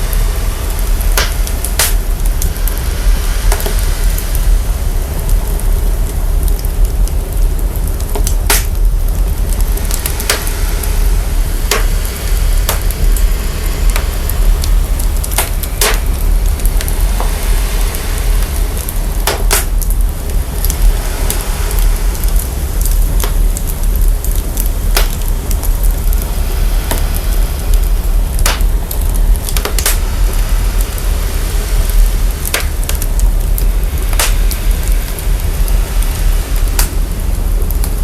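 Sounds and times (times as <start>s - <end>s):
burning wood popping: 0.0s - 38.0s
deep steady rumble: 0.0s - 38.0s
wood fire crackling and hissing: 0.0s - 38.0s.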